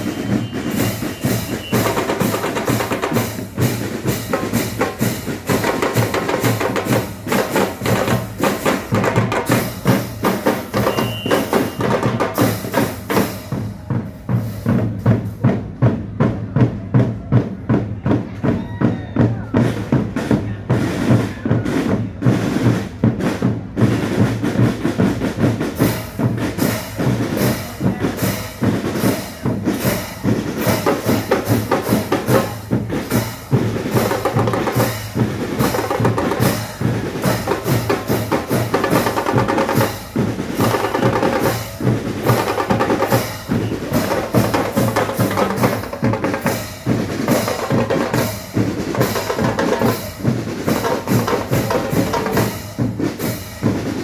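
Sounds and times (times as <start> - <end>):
drums beating a rhythm: 0.0 - 54.0.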